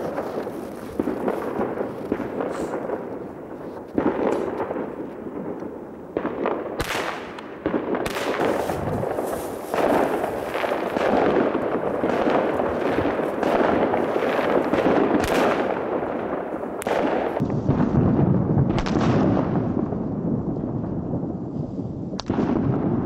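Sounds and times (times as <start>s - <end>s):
sharp firecracker pops: 0.0s - 15.8s, 16.8s - 19.7s, 22.2s - 23.0s
fireworks crackling: 0.0s - 23.0s.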